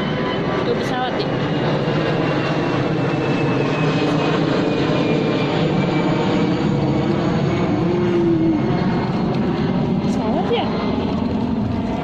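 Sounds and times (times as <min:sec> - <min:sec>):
airplane flying overhead: 0:00.0 - 0:12.0.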